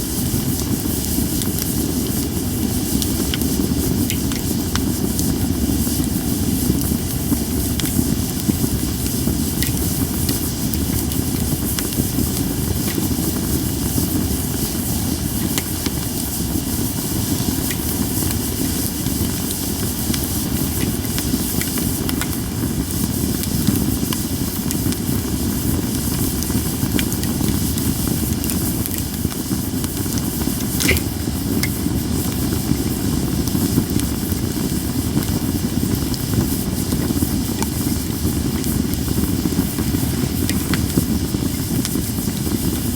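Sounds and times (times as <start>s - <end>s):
campfire hissing and rumbling: 0.0s - 42.9s
fire pops and crackles: 0.0s - 42.9s.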